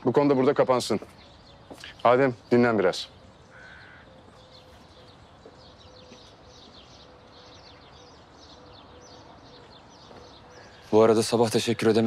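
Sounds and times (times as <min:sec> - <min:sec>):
small birds chirping: 0:00.0 - 0:12.0
soft outdoor hush: 0:00.0 - 0:12.0.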